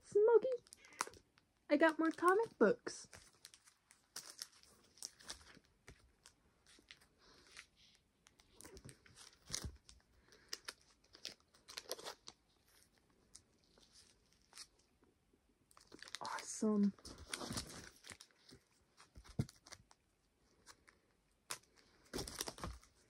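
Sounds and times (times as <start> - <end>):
packaging crinkling and rustling: 1.8 - 14.9, 15.7 - 23.0.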